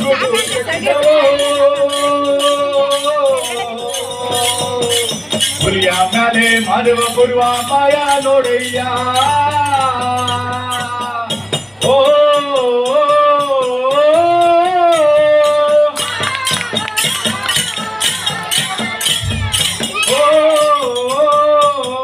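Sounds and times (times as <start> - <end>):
bronze hand cymbals clashing: 0.0 - 22.0.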